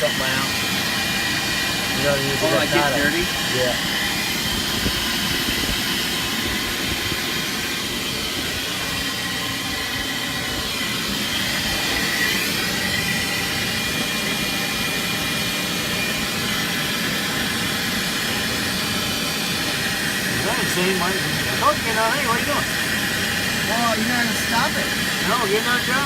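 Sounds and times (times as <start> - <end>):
oil furnace burner humming: 0.0 - 26.0.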